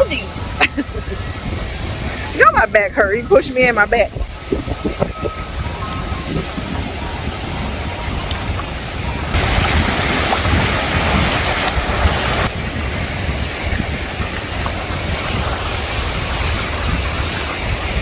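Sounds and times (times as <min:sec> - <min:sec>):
ocean surf washing in: 0:00.0 - 0:18.0
wind rumbling on microphone: 0:00.0 - 0:18.0.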